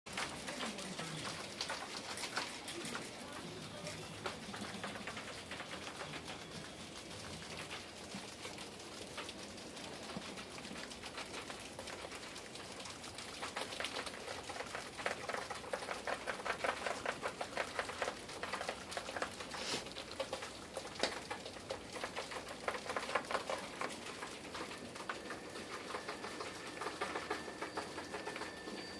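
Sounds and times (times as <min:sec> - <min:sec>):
rats gnawing dry pasta: 0:00.1 - 0:28.9.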